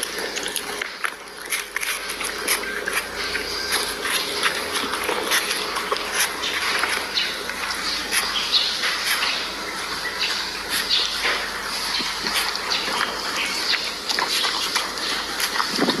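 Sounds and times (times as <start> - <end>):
dog chewing and licking: 0.0 - 16.0.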